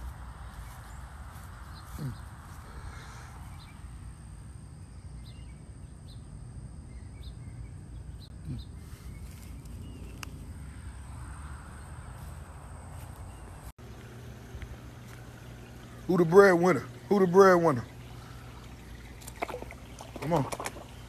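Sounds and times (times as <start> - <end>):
low steady rumble: 0.0 - 20.1.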